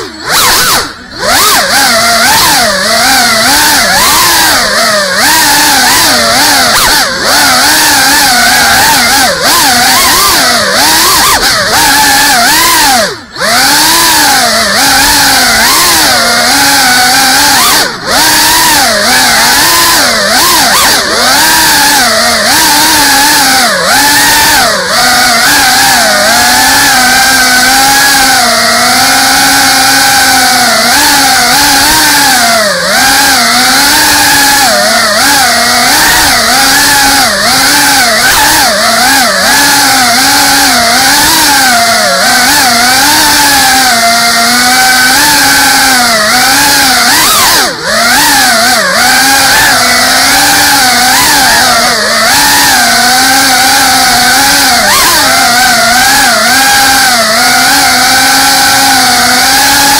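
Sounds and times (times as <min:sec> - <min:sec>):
drone motors buzzing: 0:00.0 - 0:59.9.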